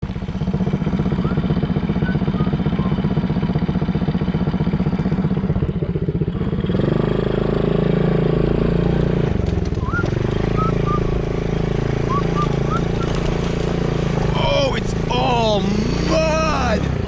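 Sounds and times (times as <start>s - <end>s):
small engine chugging and revving: 0.0s - 17.0s.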